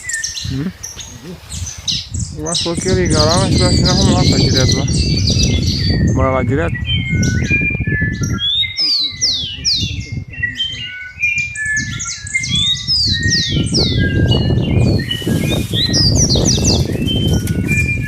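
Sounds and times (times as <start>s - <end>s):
birds chirping and whistling: 0.0s - 18.0s
low rumbling noise: 0.4s - 18.0s.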